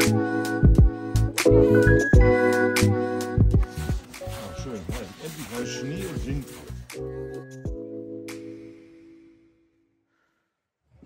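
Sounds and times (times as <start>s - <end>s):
background music held notes: 0.0s - 9.7s.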